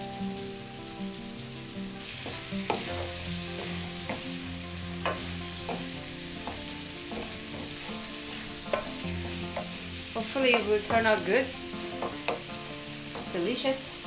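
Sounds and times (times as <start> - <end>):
fish sizzling in oil: 0.0 - 14.0.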